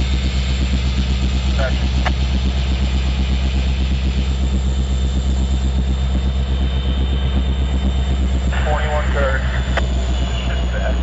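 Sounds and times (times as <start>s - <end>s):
diesel locomotive engines running: 0.0s - 11.0s.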